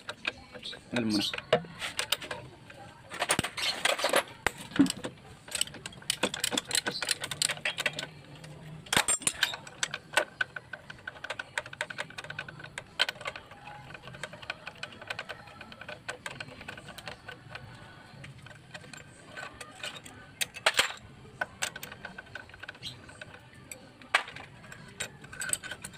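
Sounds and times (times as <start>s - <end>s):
hand tools clinking on metal: 0.0s - 25.9s.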